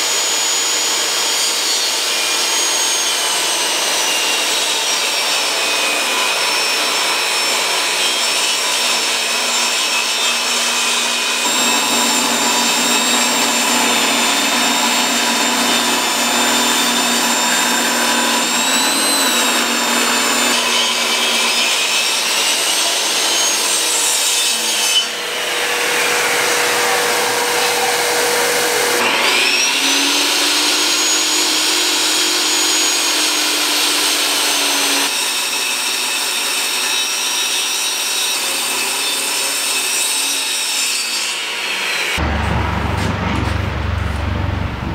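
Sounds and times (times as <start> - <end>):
table saw cutting boards: 0.0 - 44.9.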